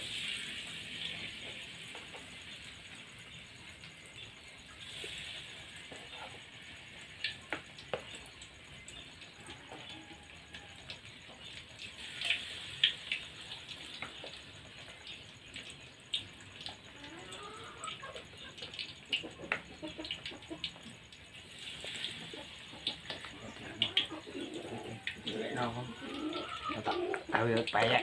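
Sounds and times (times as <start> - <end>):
frying sizzle with crackles: 0.0 - 28.0.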